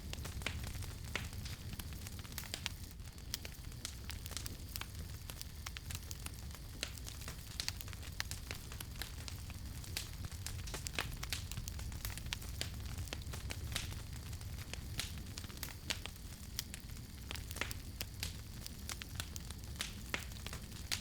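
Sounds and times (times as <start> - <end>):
low rumble of burning: 0.0 - 21.0
wood fire crackling and popping: 0.0 - 21.0.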